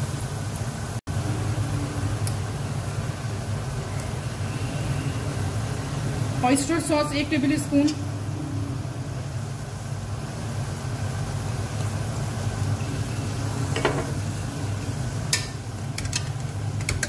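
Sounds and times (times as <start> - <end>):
chicken sizzling in oil: 0.0 - 16.8.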